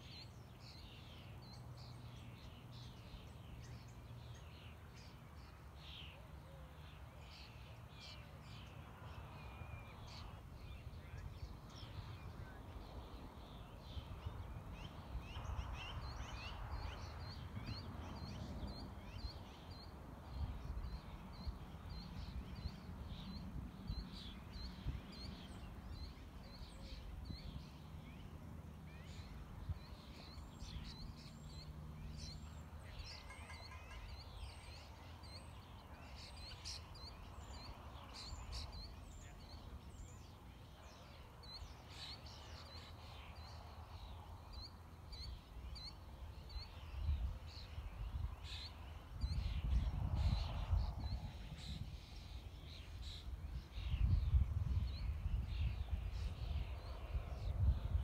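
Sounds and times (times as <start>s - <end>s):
birds chirping: 0.0s - 57.6s
wind rumbling on microphone: 8.7s - 33.2s, 34.3s - 58.0s.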